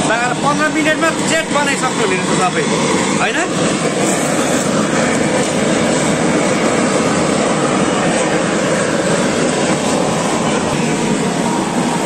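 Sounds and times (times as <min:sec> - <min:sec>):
blowtorch roaring: 0:00.0 - 0:12.0.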